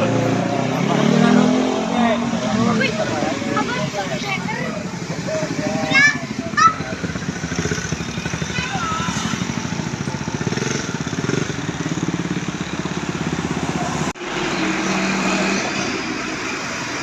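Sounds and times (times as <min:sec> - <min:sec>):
pulsing engine rumble: 0:00.0 - 0:17.0
steady engine hum: 0:00.0 - 0:17.0.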